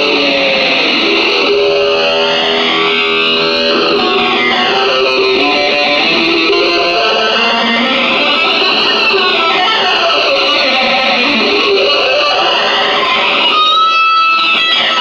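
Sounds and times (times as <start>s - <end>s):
electric guitar solo with sweeping effect: 0.0s - 15.0s.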